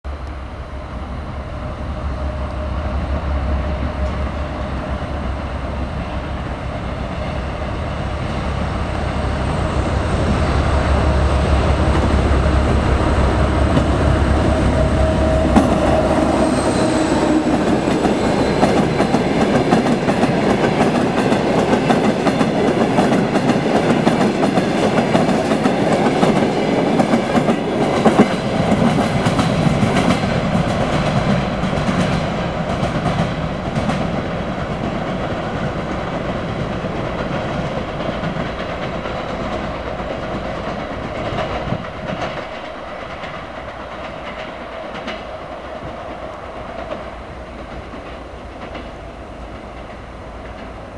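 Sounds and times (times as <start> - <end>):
diesel locomotive engine rumble: 0.1 - 50.9.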